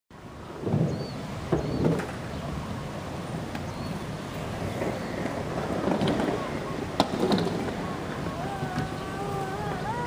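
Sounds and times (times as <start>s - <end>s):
wheels rolling on ramp: 0.5s - 2.4s, 3.5s - 10.0s.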